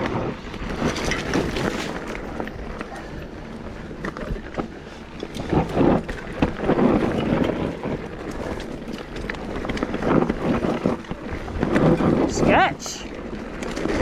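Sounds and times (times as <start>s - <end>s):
bike clattering and rattling: 0.0s - 14.0s
bike tyres crunching over rock: 0.0s - 14.0s
wind buffeting microphone: 0.0s - 14.0s.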